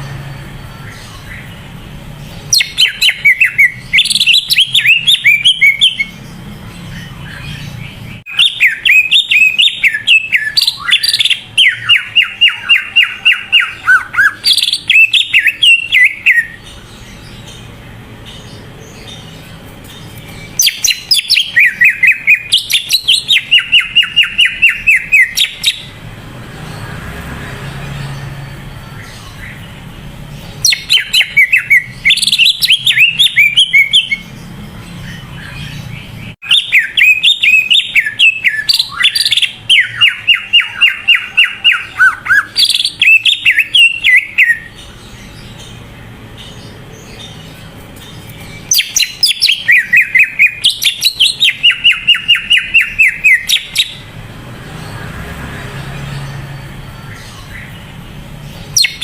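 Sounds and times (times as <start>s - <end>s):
bird chattering and whistling: 0.0s - 26.1s, 28.1s - 55.0s, 56.0s - 59.0s.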